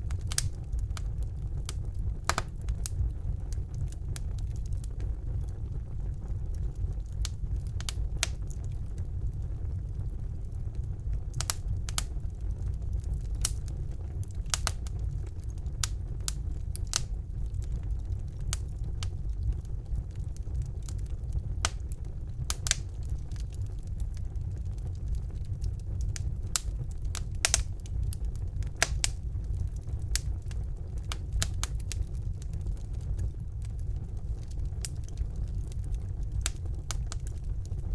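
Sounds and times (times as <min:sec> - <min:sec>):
fire flames rumbling: 0:00.0 - 0:37.9
logs crackling and popping: 0:00.0 - 0:37.9.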